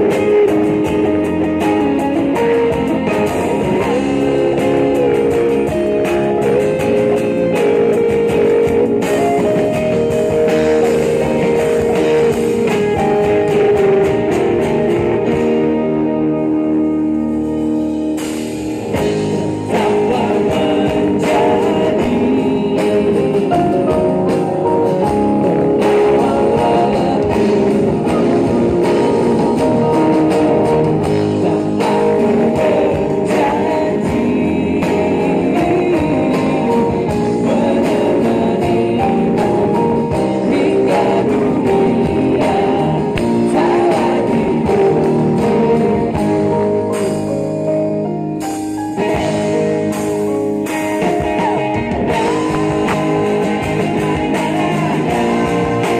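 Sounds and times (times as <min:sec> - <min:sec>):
man singing: 0:00.0 - 0:12.4, 0:19.0 - 0:47.3, 0:51.0 - 0:55.9
live pop band playing: 0:00.0 - 0:55.9.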